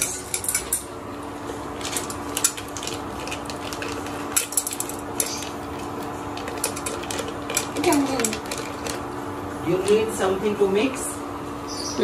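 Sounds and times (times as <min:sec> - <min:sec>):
induction cooktop hum: 0:00.0 - 0:12.0.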